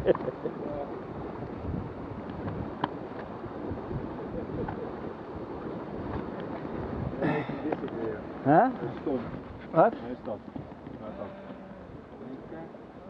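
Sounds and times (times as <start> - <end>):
water rushing along boat hull: 0.0 - 13.0
wind buffeting microphone: 0.0 - 13.0.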